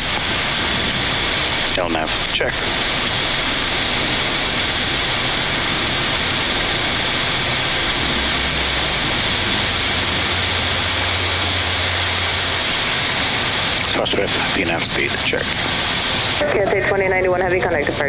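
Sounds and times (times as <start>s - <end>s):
jet engines roaring: 0.0s - 18.0s
low hum: 0.0s - 18.0s
rushing airflow: 0.0s - 18.0s.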